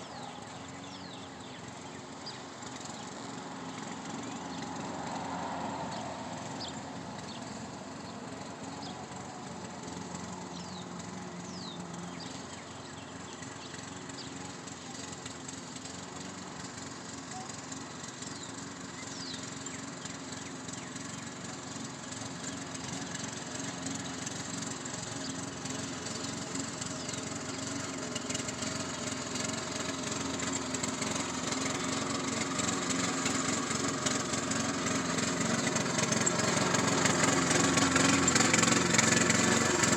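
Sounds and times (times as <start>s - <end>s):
lawn mower running: 0.0s - 39.9s.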